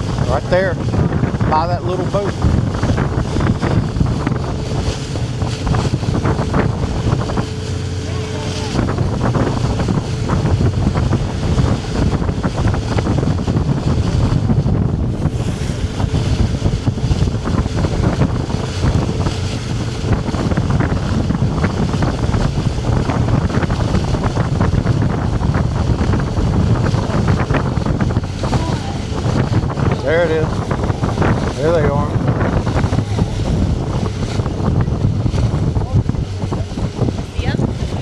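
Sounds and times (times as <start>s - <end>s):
boat: 0.0s - 38.0s
water rushing: 0.0s - 38.0s
wind buffeting microphone: 0.0s - 38.0s.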